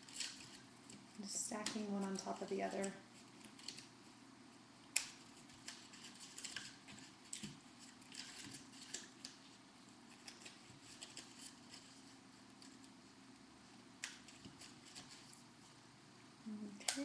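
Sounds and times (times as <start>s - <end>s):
paper strips rustling: 0.0s - 4.2s, 4.9s - 13.0s, 14.0s - 15.8s.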